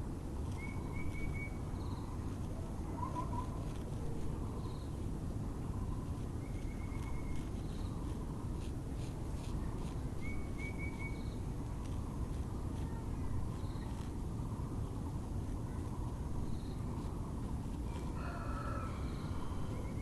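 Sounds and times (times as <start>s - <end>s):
low background rumble: 0.0s - 20.0s
rapid bird trills: 0.4s - 5.0s, 5.7s - 20.0s
songbirds calling: 0.4s - 20.0s.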